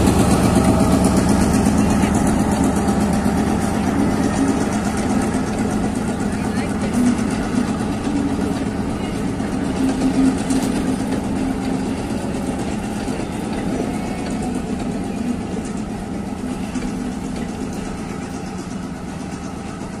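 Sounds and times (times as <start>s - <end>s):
diesel train engine humming: 0.0s - 20.0s.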